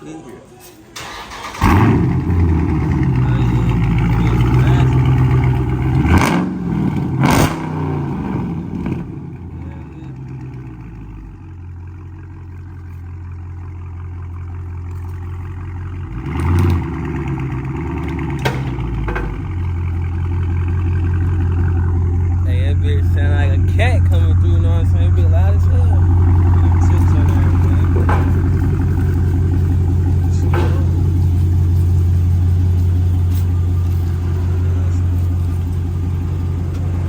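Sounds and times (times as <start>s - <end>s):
car engine starting and revving: 1.0s - 37.0s.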